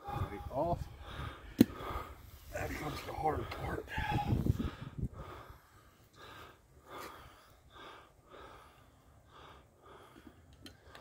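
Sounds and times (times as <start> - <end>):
person breathing hard: 0.2 - 11.0.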